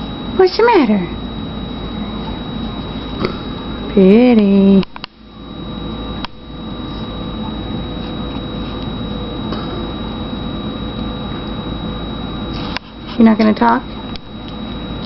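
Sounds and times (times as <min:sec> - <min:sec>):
faint high whine: 0:00.0 - 0:15.0
room hum and hiss: 0:00.0 - 0:15.0.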